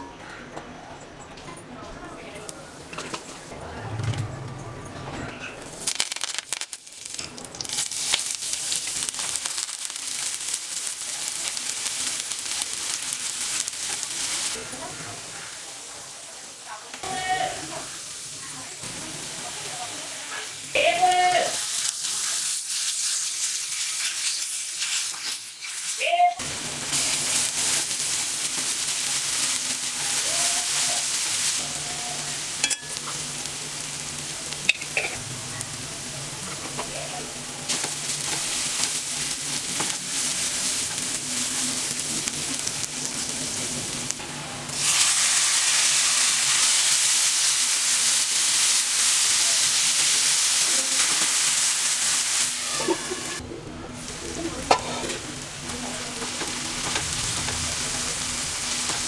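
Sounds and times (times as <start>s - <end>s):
food sizzling in hot oil: 5.7s - 53.4s, 54.0s - 59.0s.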